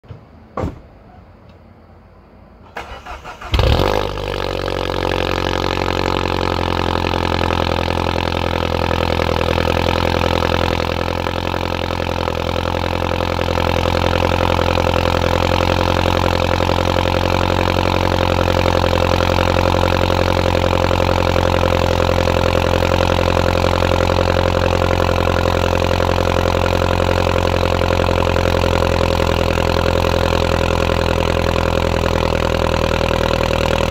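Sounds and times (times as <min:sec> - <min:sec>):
car engine starting and idling: 0:00.1 - 0:33.9.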